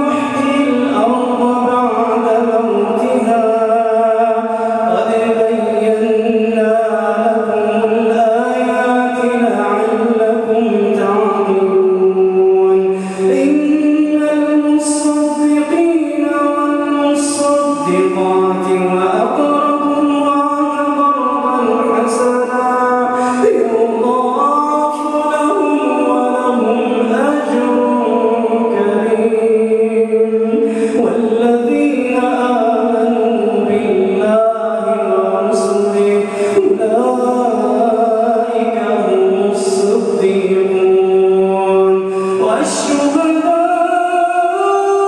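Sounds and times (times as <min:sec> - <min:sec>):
man reciting melodically: 0:00.0 - 0:45.0.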